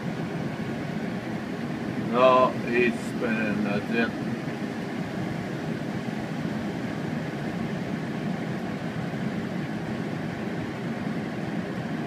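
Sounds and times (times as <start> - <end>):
combine harvester rumbling: 0.0 - 12.0.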